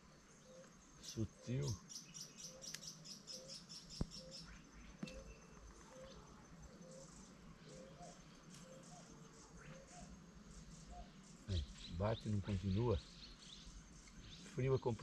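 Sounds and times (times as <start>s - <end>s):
short low bird calls: 0.0s - 15.0s.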